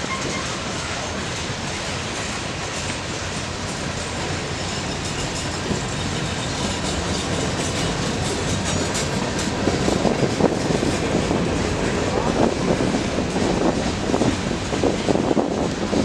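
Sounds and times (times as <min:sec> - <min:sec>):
train wheels clicking on rails: 0:00.0 - 0:16.0.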